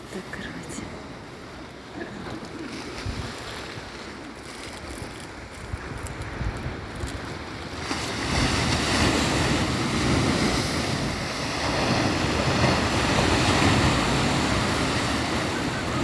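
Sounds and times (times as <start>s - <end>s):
surf breaking on shore: 1.9s - 16.0s
wind on microphone: 2.7s - 16.0s.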